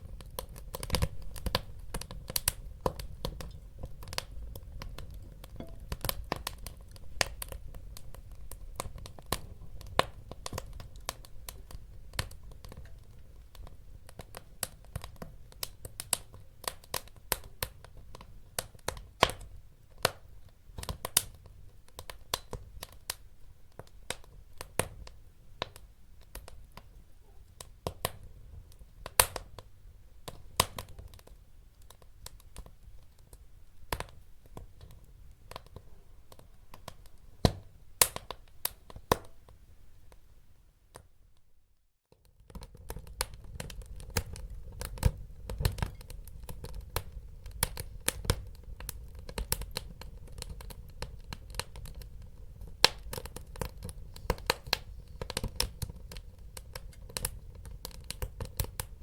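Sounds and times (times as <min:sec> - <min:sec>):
wood fire crackling: 0:00.0 - 0:41.1, 0:42.1 - 0:59.0.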